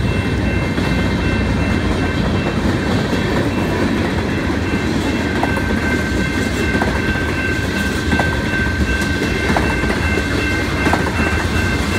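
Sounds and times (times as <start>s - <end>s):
crossing warning bell ringing: 0.0s - 11.9s
freight train rumbling past: 0.0s - 11.9s.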